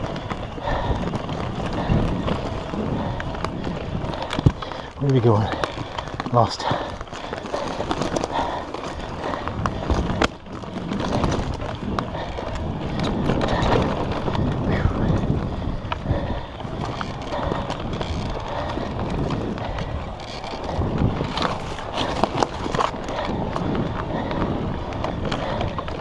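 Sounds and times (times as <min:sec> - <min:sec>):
bike rattling: 0:00.0 - 0:26.0
tyres rumbling over dirt: 0:00.0 - 0:26.0
wind on microphone: 0:00.0 - 0:26.0.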